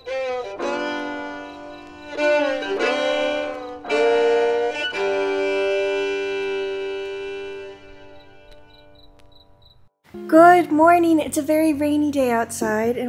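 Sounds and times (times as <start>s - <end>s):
bowed fiddle melody: 0.0s - 9.3s, 10.1s - 12.9s.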